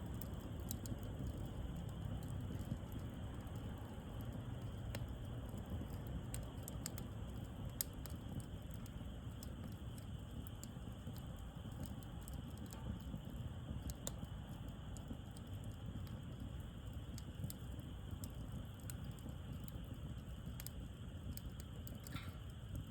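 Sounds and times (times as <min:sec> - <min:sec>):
fire crackles and pops: 0:00.0 - 0:22.9
wood fire rumbling: 0:00.0 - 0:22.9.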